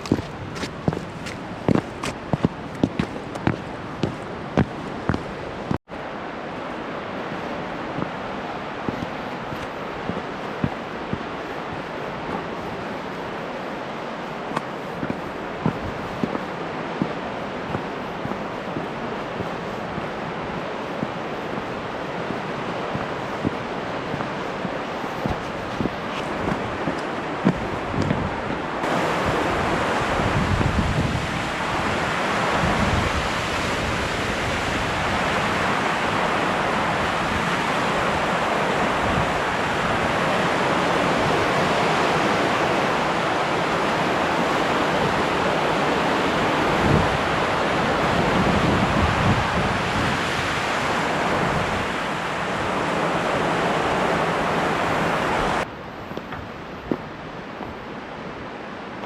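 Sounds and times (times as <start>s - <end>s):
wind buffeting microphone: 0.0s - 5.8s, 6.7s - 59.0s
waterfall and fast river rushing: 0.0s - 59.0s.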